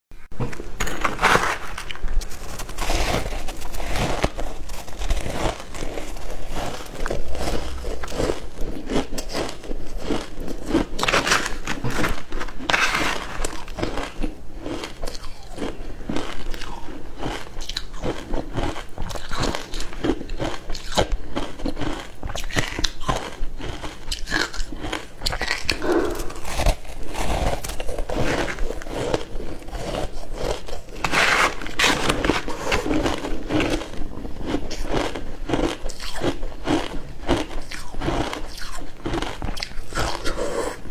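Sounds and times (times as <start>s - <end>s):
ice being bitten and chewed: 0.4s - 40.9s.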